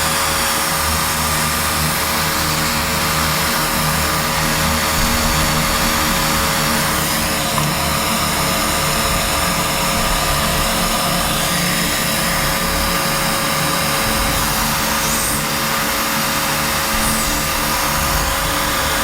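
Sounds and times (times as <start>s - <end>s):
quadcopter motors whirring: 0.0s - 19.0s.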